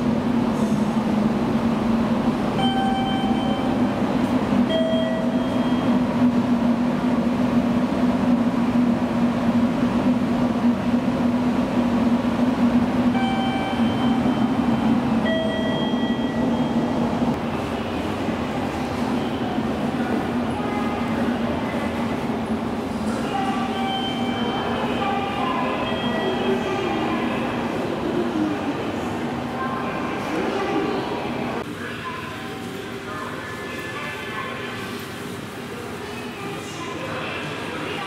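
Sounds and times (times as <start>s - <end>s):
train humming: 0.0s - 38.0s.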